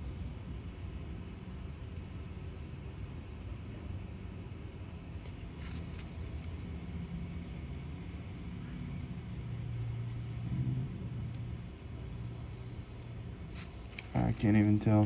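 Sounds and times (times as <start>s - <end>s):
low hum: 0.0s - 15.0s
low steady rumble: 0.0s - 15.0s.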